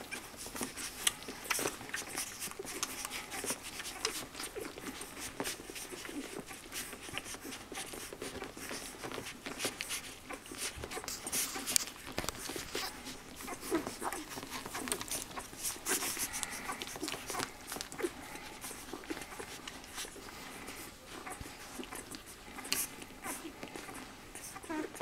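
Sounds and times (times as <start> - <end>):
puppies squeaking and grunting: 0.0 - 25.0
puppies sucking and smacking: 0.0 - 25.0.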